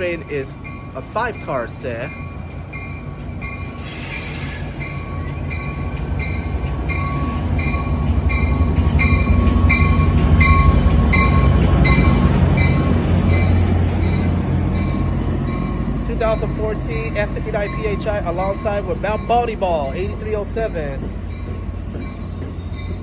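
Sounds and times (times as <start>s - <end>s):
locomotive bell ringing: 0.0s - 4.0s, 4.6s - 23.0s
diesel locomotive engine drone: 0.0s - 23.0s.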